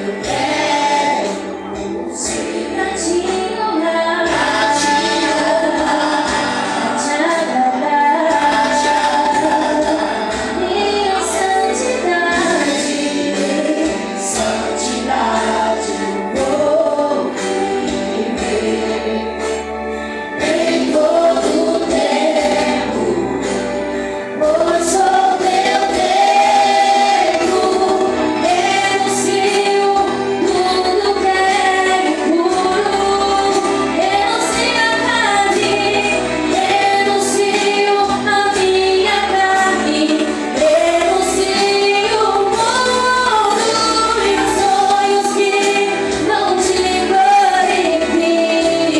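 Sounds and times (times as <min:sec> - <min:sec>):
group singing gospel song: 0:00.0 - 0:48.9
instrumental accompaniment: 0:00.0 - 0:48.9.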